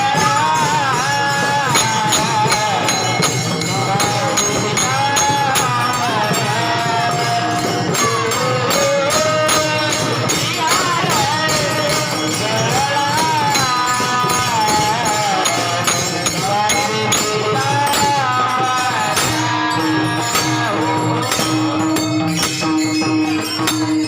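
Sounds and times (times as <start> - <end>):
high voice singing: 0.0 - 24.0
jingling hand percussion: 0.0 - 24.0.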